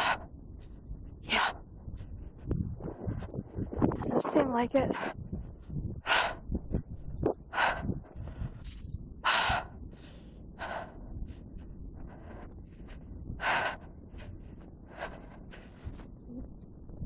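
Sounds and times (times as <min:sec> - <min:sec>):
person breathing heavily: 0:00.0 - 0:03.6, 0:04.3 - 0:16.7
steady low rumble: 0:00.0 - 0:17.0.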